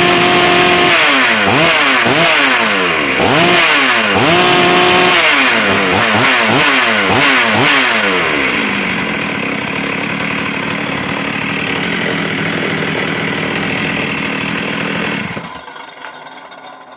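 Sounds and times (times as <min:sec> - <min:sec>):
chainsaw revving and idling: 0:00.0 - 0:15.8.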